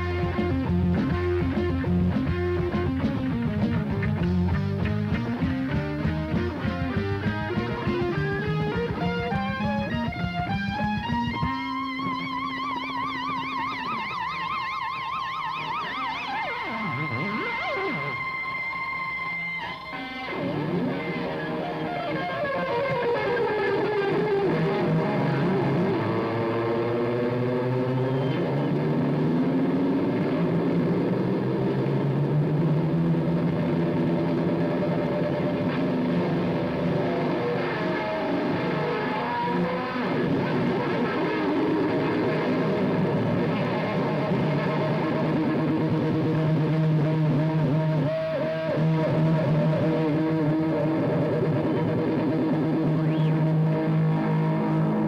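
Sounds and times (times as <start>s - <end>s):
distorted electric guitar: 0.0s - 55.0s
high whine: 0.0s - 55.0s.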